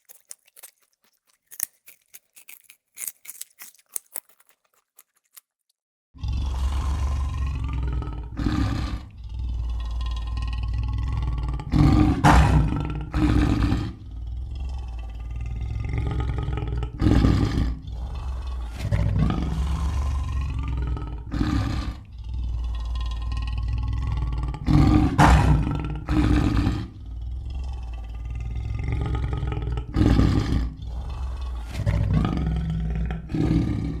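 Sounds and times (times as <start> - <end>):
large animal growling and roaring: 6.2 - 34.0.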